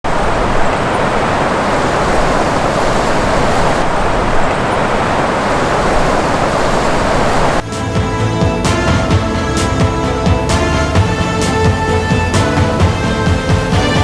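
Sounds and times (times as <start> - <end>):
loud steady rushing noise: 0.0 - 14.0.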